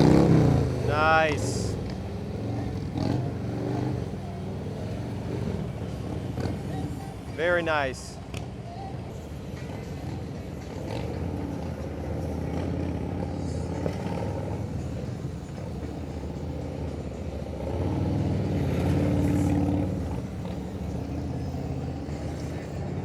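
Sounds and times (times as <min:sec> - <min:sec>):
motorcycle engine running: 0:00.0 - 0:07.5, 0:08.2 - 0:23.0.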